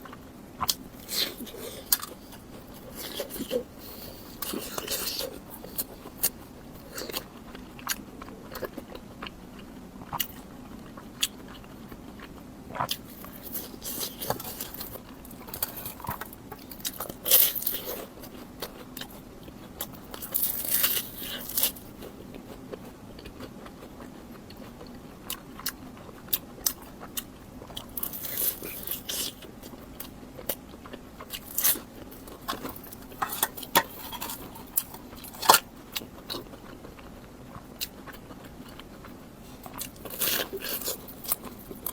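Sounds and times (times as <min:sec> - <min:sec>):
crunchy food chewing: 0:00.0 - 0:41.9.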